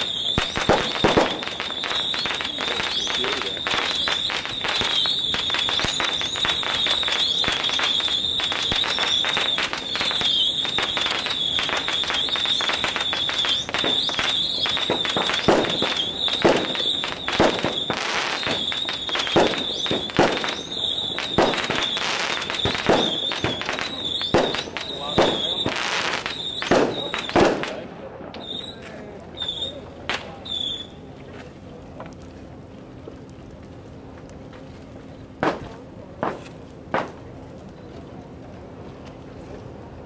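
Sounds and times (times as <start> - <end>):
firecrackers crackling: 0.0 - 31.1, 31.7 - 40.0.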